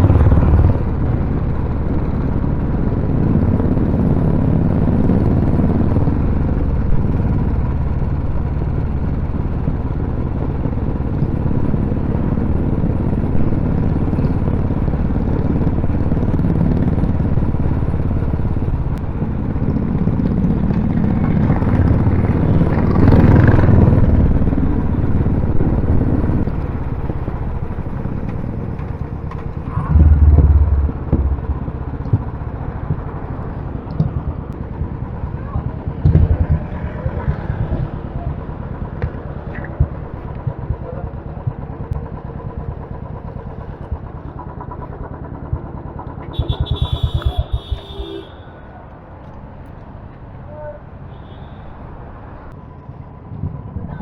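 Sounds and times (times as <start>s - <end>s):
motorcycle engine running: 0.0s - 49.6s.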